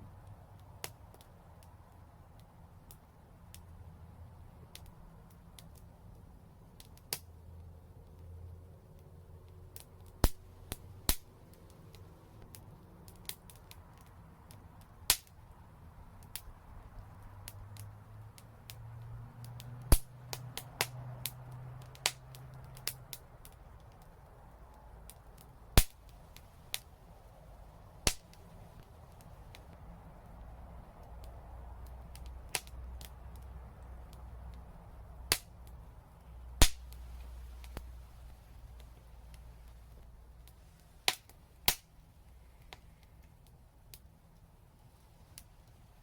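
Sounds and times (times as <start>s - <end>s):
fire crackling in a fireplace: 0.0s - 46.0s.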